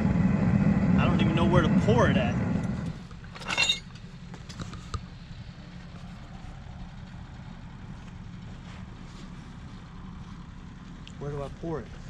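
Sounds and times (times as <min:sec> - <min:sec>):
burner low rumble: 0:00.0 - 0:12.0.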